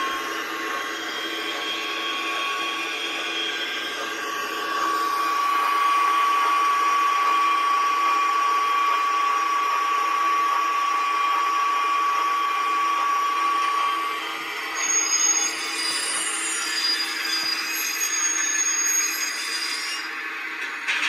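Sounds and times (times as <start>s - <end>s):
model train motor whining: 0.0s - 21.0s.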